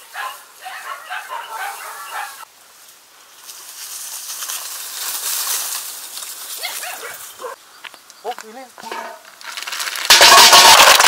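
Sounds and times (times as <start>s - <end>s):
leaves and grass rustling: 0.0s - 11.0s.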